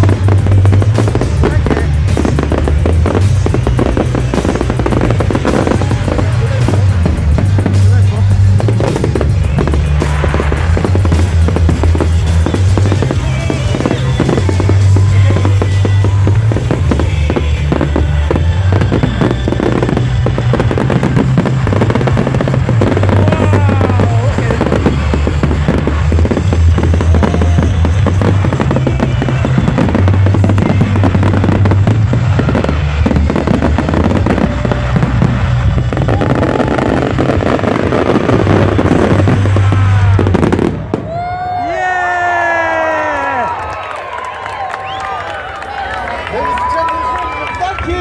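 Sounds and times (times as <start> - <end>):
loud music with heavy bass: 0.0 - 41.0
fireworks bangs and crackles: 0.0 - 48.0.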